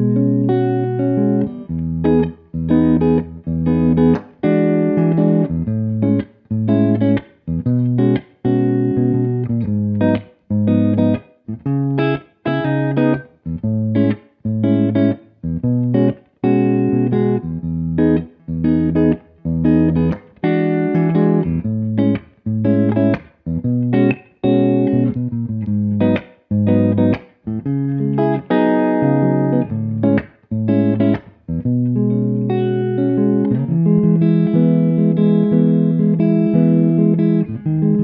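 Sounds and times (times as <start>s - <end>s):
jazz guitar chords: 0.0s - 38.0s.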